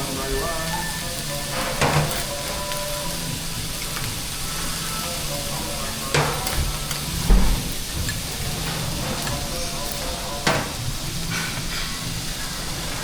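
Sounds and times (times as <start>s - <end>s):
rice sizzling on a griddle: 0.0s - 13.0s.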